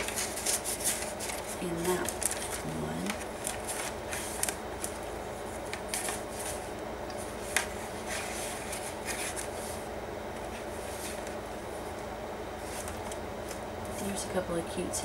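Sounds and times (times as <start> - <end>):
paper pages rustling: 0.0 - 9.8, 10.4 - 11.4, 12.6 - 14.2
low room hum: 0.0 - 15.0.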